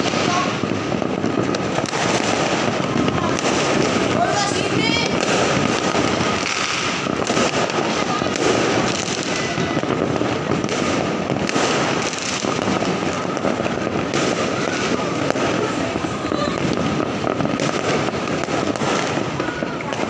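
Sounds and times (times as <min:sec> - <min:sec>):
fireworks crackling and banging: 0:00.0 - 0:20.0.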